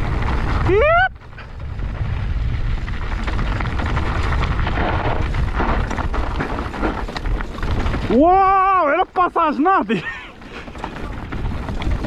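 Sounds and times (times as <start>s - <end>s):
wind buffeting microphone: 0.0s - 8.8s, 10.0s - 12.0s
bike rattling over rough ground: 0.0s - 12.0s.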